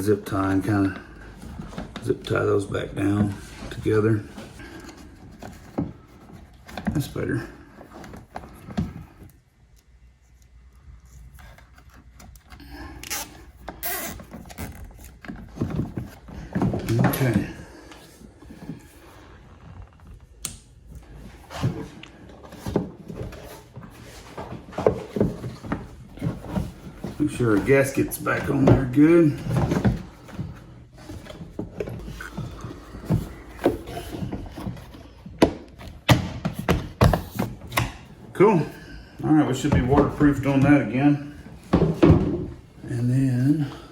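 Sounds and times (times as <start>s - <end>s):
parts and wiring scraping: 0.0s - 41.7s.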